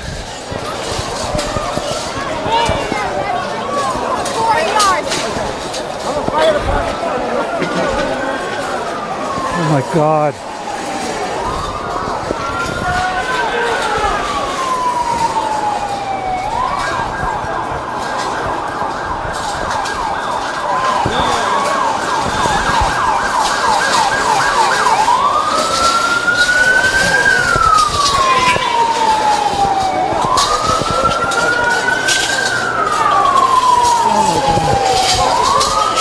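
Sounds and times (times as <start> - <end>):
emergency vehicle siren: 0.0 - 36.0
street noise: 0.0 - 36.0.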